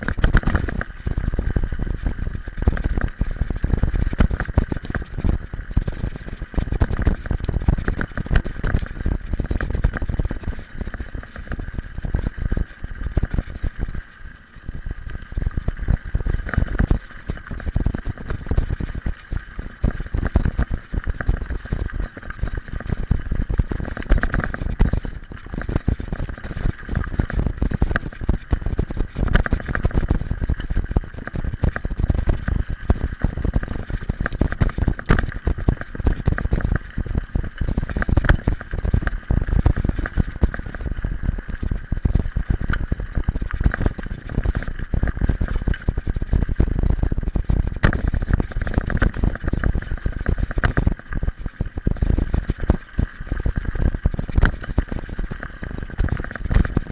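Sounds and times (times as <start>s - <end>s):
bike rattles and knocks: 0.0s - 14.0s, 15.6s - 51.2s
bike tyres rumbling on gravel: 0.0s - 56.9s.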